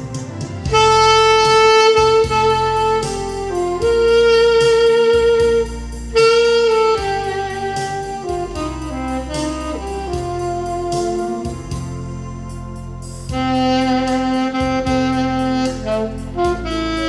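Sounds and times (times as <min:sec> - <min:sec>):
backing track: 0:00.0 - 0:17.0
saxophone melody: 0:00.0 - 0:17.0.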